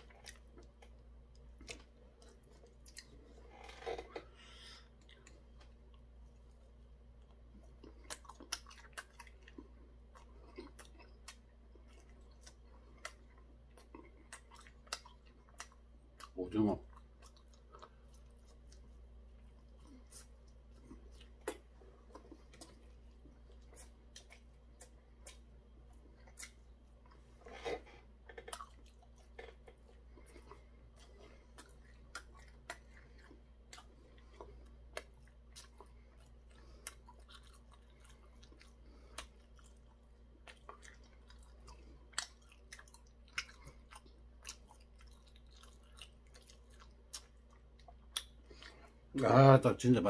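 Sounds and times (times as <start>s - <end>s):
person chewing crunchy food: 0.0s - 49.1s.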